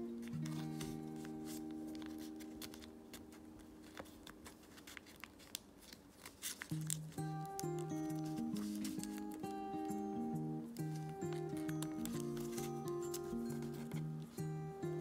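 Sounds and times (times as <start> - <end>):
soft background music: 0.0 - 5.6, 6.2 - 15.0
paper crinkling: 0.0 - 15.0.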